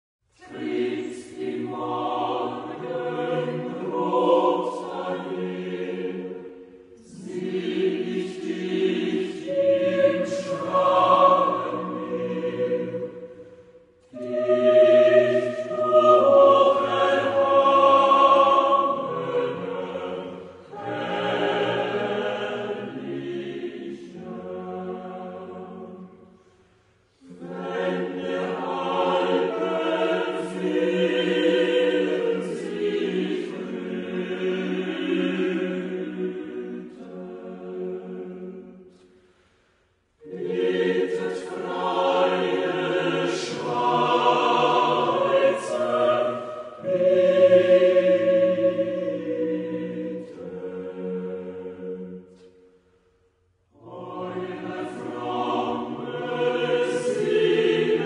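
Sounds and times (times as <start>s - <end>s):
choir singing: 0.4s - 39.1s, 40.1s - 58.0s.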